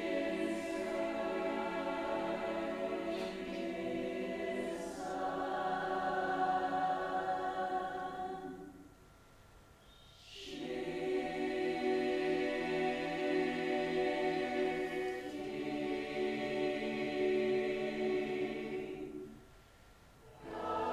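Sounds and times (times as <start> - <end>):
voices singing held chords: 0.0 - 8.9, 10.2 - 19.4, 20.3 - 20.9.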